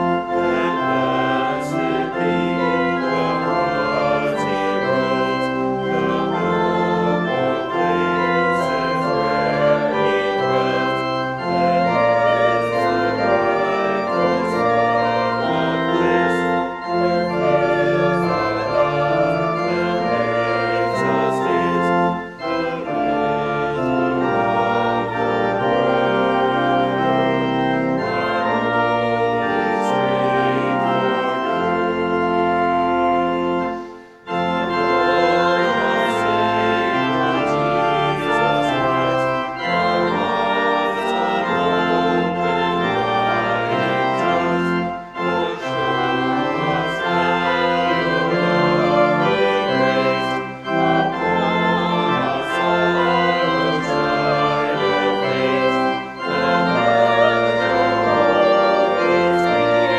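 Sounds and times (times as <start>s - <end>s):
pipe organ playing hymn: 0.0s - 59.9s.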